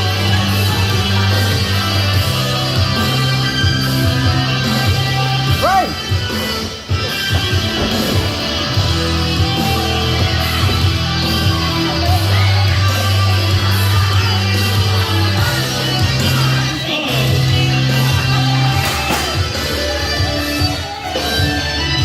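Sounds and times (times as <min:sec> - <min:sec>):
drums: 0:00.0 - 0:22.0.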